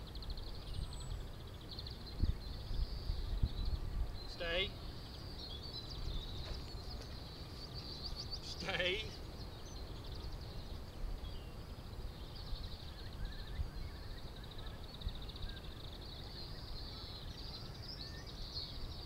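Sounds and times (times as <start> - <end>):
wind rumble on microphone: 0.0 - 8.4, 9.1 - 19.0
bird singing a fast trill: 0.0 - 19.0.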